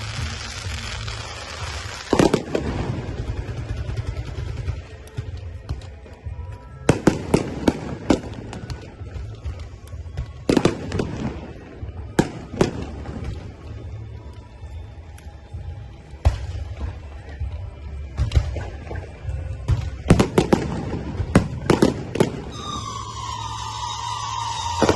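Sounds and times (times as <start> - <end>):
fireworks bangs: 0.0 - 14.0, 16.2 - 24.9
fireworks crackling: 0.0 - 24.9.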